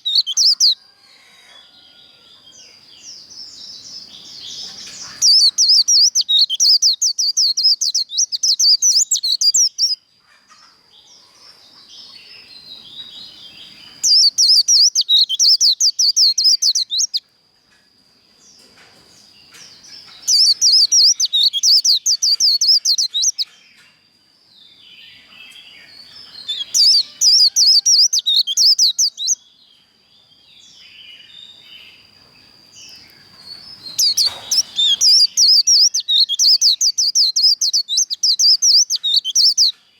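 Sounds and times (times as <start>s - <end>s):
bird twittering song: 0.0s - 0.8s, 2.2s - 17.3s, 18.4s - 39.9s
soft bird chirps: 0.0s - 17.3s, 18.5s - 29.6s, 30.2s - 39.9s.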